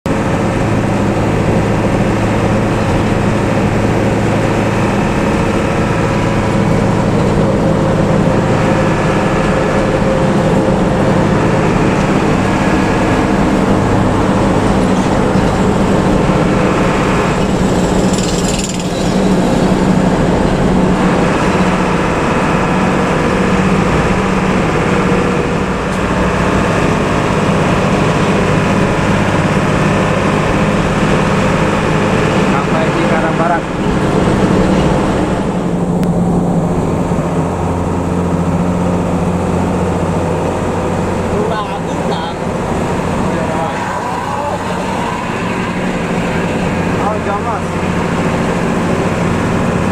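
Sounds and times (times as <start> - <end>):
diesel bus engine droning: 0.0 - 49.9.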